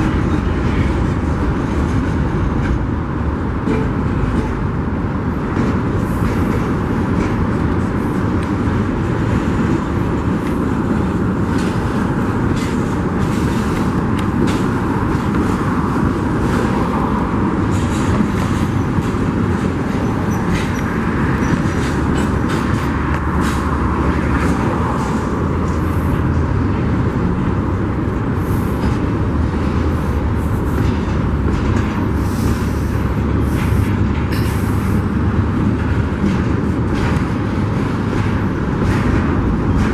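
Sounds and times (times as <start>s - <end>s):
clicks and clanks from cars: 0.0s - 39.9s
rumble of train wheels on rails: 0.0s - 39.9s.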